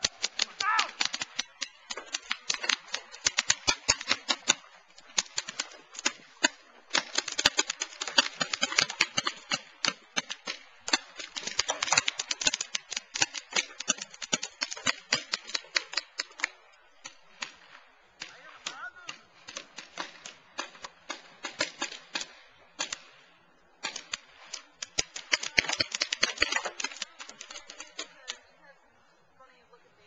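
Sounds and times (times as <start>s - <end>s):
paintball markers firing: 0.0s - 23.2s, 23.8s - 28.4s.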